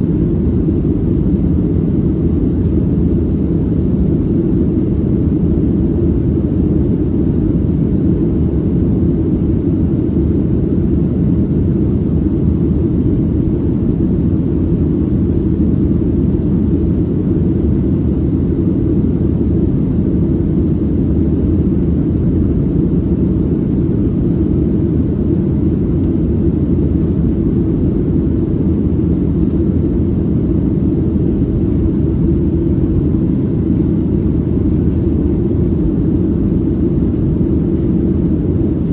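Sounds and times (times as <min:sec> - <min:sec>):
jet engines droning: 0:00.0 - 0:38.9.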